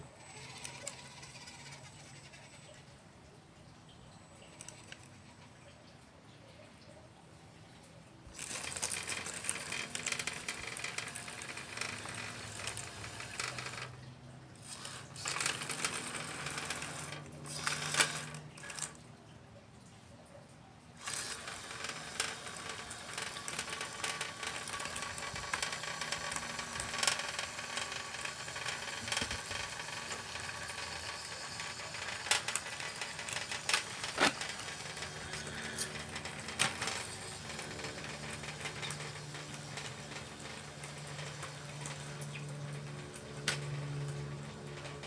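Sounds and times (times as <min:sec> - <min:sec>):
crackle of small clicks and clatters: 0:04.2 - 0:06.0, 0:07.7 - 0:20.0, 0:21.0 - 0:45.0.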